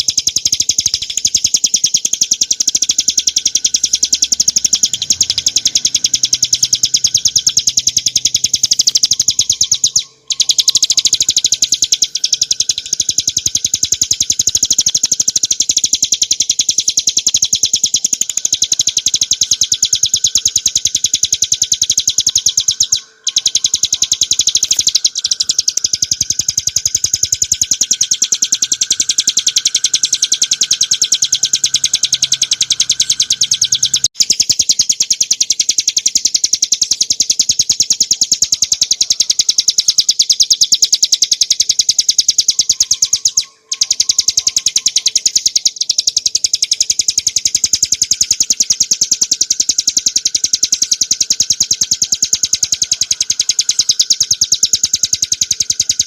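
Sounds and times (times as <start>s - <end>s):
bird singing rapid high trill: 0.0s - 56.0s.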